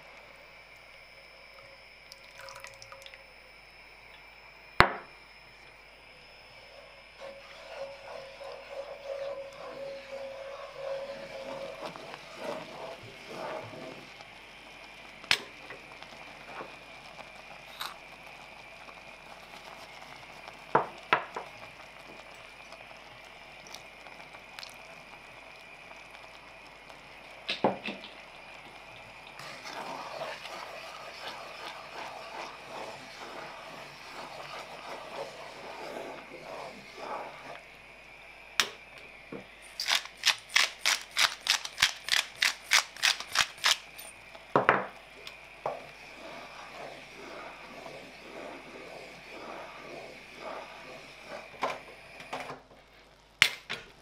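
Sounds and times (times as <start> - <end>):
sauce simmering: 0.0 - 41.5, 43.5 - 53.4
utensil stirring pot: 6.6 - 37.9, 39.4 - 53.2.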